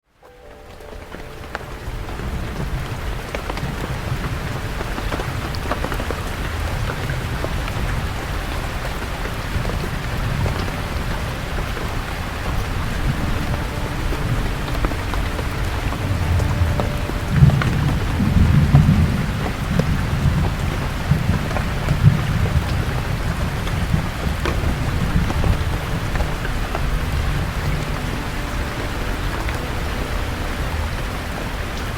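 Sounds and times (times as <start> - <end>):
rain falling on leaves: 0.0 - 31.9
low thunder rumbling: 1.1 - 31.9.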